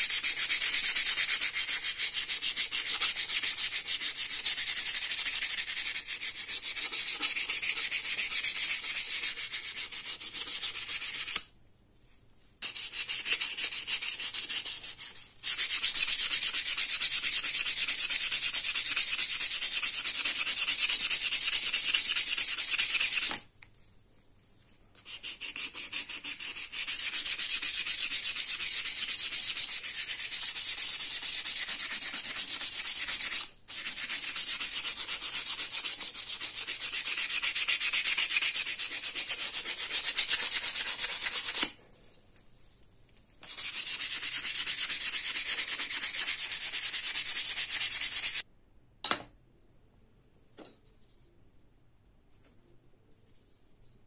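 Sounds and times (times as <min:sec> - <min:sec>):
sandpaper scrubbing metal: 0:00.0 - 0:11.4, 0:12.6 - 0:23.4, 0:25.0 - 0:41.7, 0:43.4 - 0:48.4.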